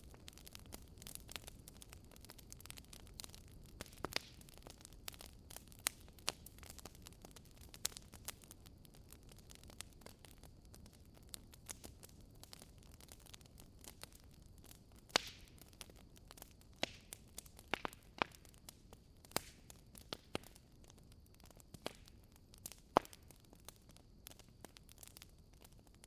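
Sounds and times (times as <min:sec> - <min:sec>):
low steady hiss: 0:00.0 - 0:26.0
wood fire crackling and popping: 0:00.0 - 0:26.0.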